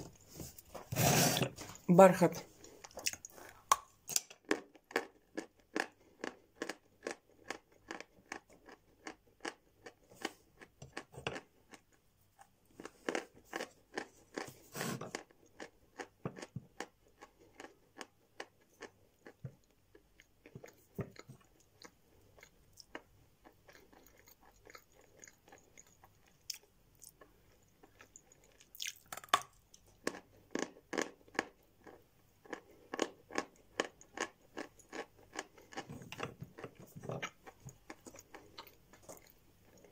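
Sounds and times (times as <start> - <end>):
chalk crunching as chewed: 2.6 - 11.9, 12.7 - 39.9.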